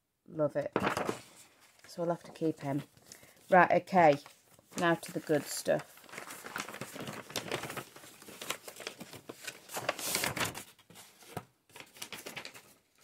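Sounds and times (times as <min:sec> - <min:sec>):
tissue paper rustling: 0:00.8 - 0:13.0.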